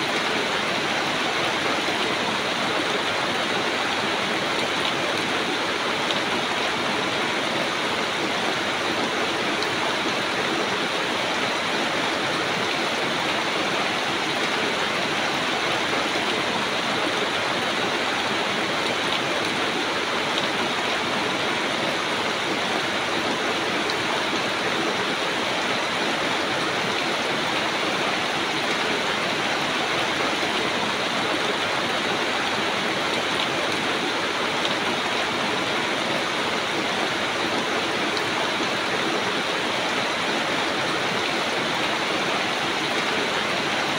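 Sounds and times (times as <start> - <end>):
rain on leaves: 0.0 - 43.9.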